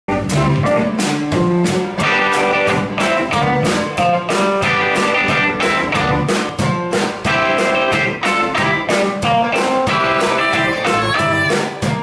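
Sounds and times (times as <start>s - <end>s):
live blues band playing: 0.1s - 12.0s.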